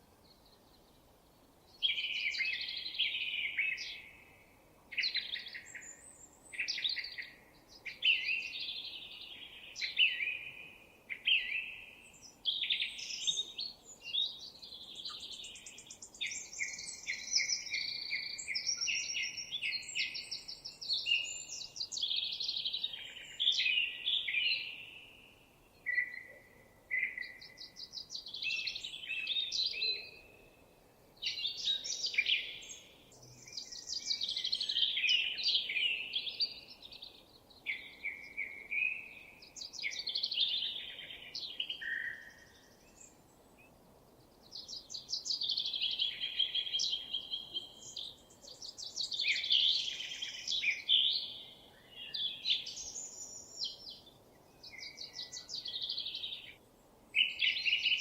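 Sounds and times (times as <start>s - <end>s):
faint outdoor hiss: 0.0s - 58.0s.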